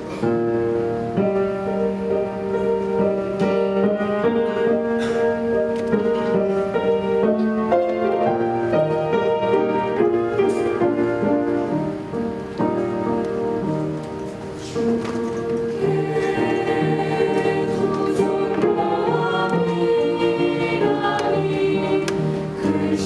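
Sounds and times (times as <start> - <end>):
piano playing hymn chords: 0.0 - 23.0.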